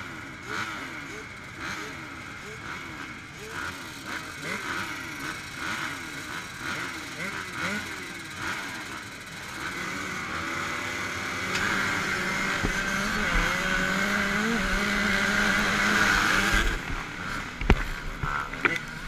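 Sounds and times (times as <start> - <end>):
motocross engine revving hard: 0.0 - 19.0.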